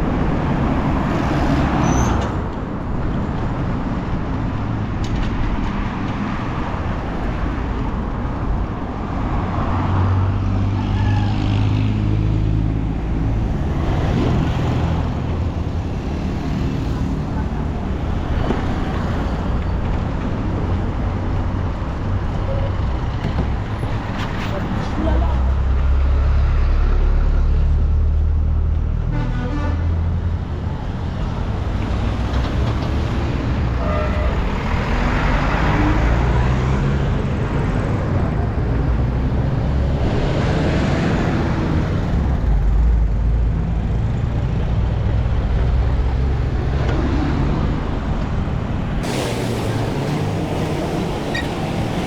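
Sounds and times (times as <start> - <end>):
road noise: 0.0 - 52.0
vehicle engines rumbling: 0.0 - 52.0.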